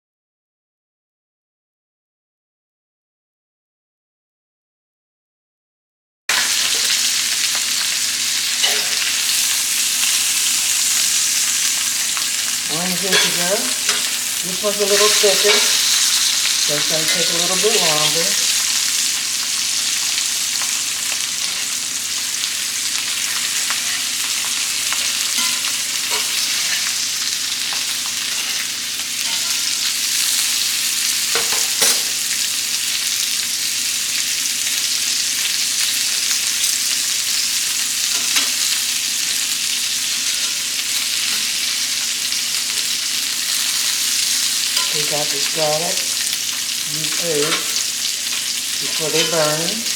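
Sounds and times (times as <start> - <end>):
steak sizzling in a skillet: 6.3 - 49.9.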